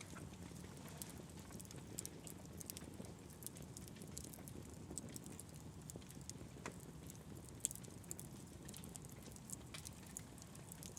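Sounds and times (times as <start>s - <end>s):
campfire crackling and popping: 1.6s - 10.9s.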